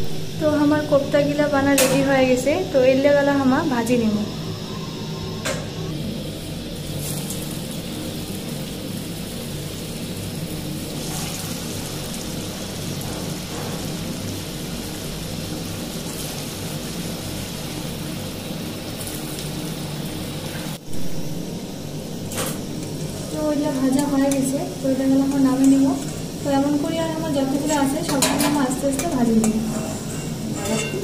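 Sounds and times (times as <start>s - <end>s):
food deep-frying in oil: 0.0s - 31.0s.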